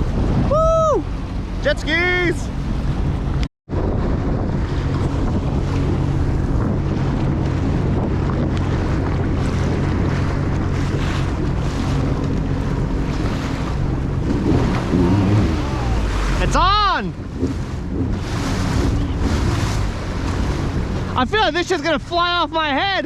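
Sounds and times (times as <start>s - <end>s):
rushing water: 0.0s - 3.4s, 4.6s - 23.0s
wind buffeting microphone: 0.0s - 22.6s
jet ski engine running: 0.0s - 22.9s.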